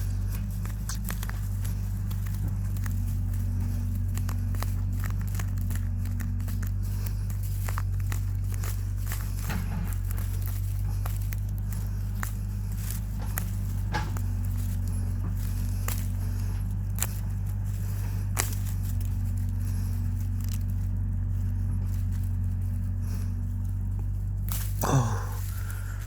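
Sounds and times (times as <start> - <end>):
steady low hum: 0.0 - 26.0
stick scraping in soil: 0.0 - 26.0.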